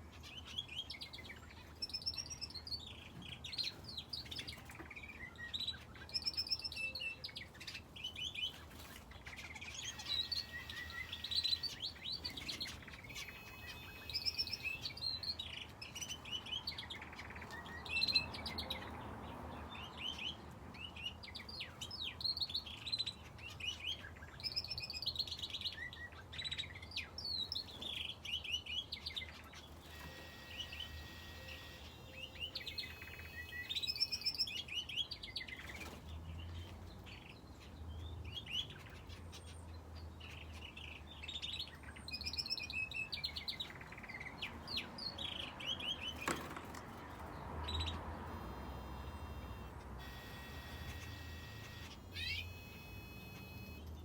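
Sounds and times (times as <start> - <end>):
finches and canary chirping: 0.0 - 54.0.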